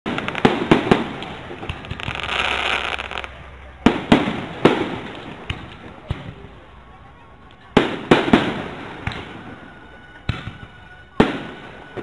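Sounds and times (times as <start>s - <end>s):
fireworks bangs: 0.0s - 6.8s, 7.6s - 12.0s
fireworks crackling: 0.0s - 12.0s.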